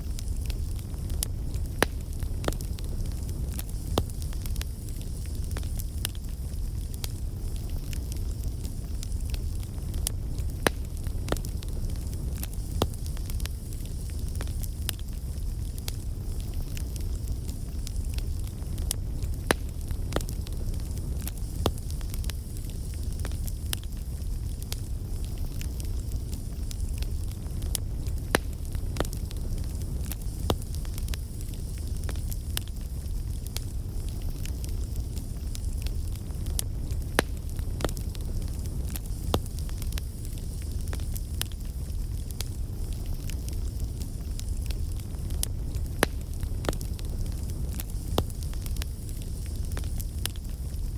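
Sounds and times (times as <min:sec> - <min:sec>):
flames rumbling: 0:00.0 - 0:50.9
wood crackling and popping: 0:00.0 - 0:50.9.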